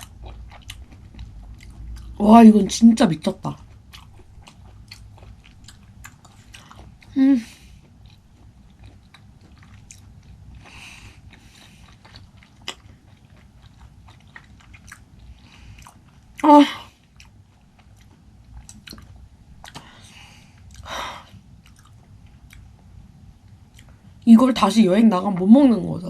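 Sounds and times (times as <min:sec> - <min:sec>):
mouth chewing wetly: 0:00.0 - 0:02.2, 0:03.5 - 0:22.9, 0:23.5 - 0:24.2.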